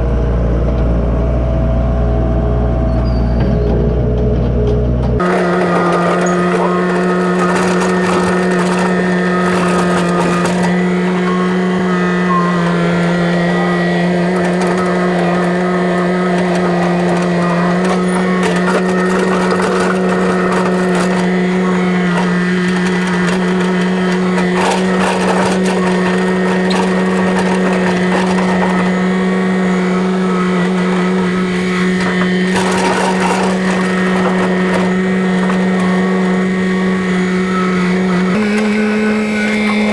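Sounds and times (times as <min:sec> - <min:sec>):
earth-moving machine engine running: 0:00.0 - 0:39.9
clanks and knocks: 0:03.7 - 0:39.9.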